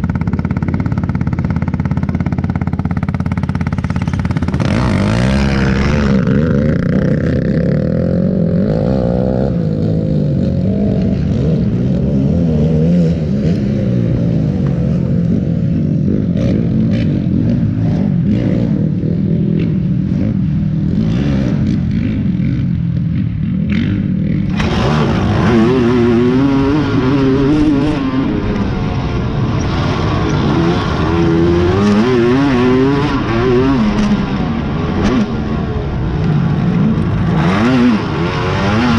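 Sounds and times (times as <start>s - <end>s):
quad engines revving: 0.0s - 38.9s.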